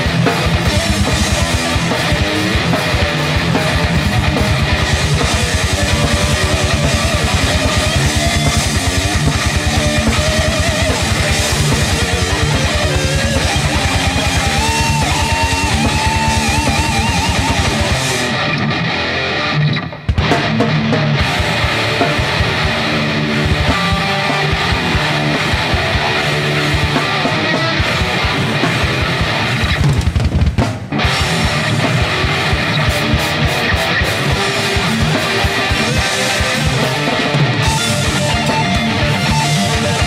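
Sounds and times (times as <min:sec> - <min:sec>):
bass guitar: 0:00.0 - 0:40.0
distorted electric guitars: 0:00.0 - 0:40.0
drum kit: 0:00.0 - 0:40.0.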